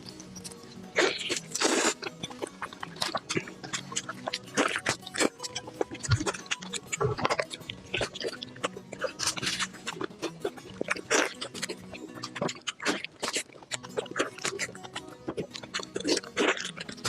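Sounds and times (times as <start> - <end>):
background music: 0.0 - 17.0
person chewing meat: 0.0 - 17.0.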